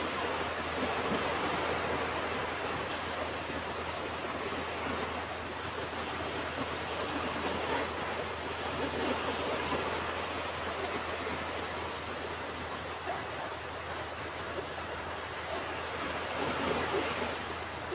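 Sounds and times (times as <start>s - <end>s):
ocean waves breaking: 0.0s - 17.9s.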